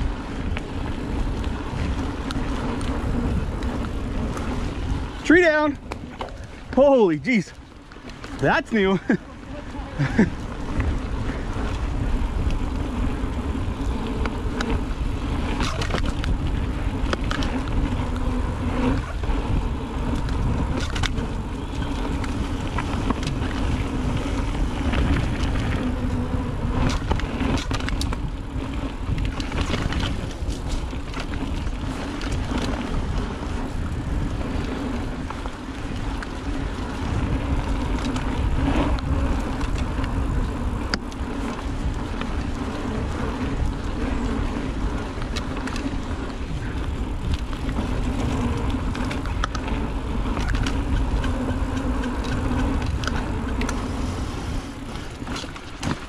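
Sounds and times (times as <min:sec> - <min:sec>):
bike clicks and rattles: 0:00.0 - 0:56.0
bike tyres rumbling on dirt: 0:00.0 - 0:56.0
wind on microphone: 0:00.0 - 0:56.0.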